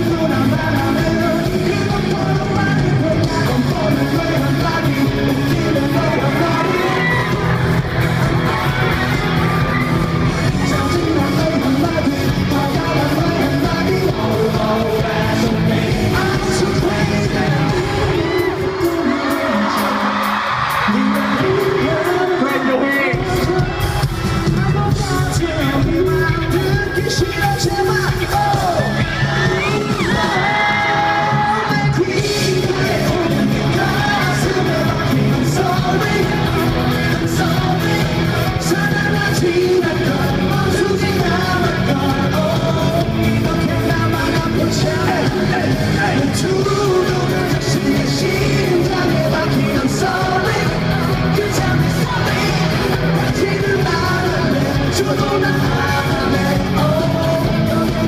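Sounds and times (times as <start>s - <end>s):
bass guitar: 0.0s - 58.0s
drums: 0.0s - 58.0s
electric guitars: 0.0s - 58.0s
man singing: 0.0s - 58.0s.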